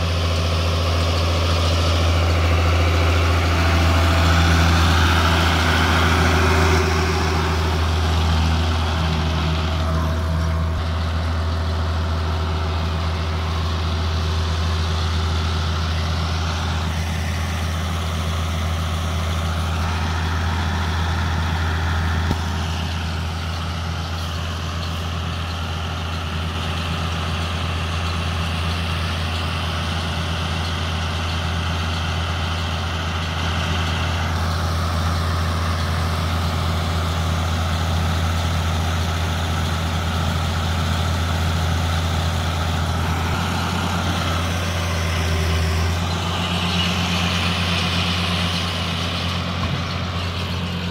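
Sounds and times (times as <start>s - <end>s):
round baler baling hay: 0.0s - 50.9s
tractor diesel engine running: 0.0s - 50.9s.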